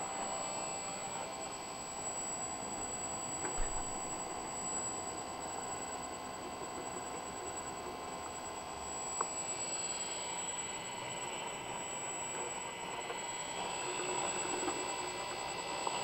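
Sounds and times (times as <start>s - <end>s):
computer cooling fans whirring: 0.0s - 16.0s
electrical hum with whines: 0.0s - 16.0s.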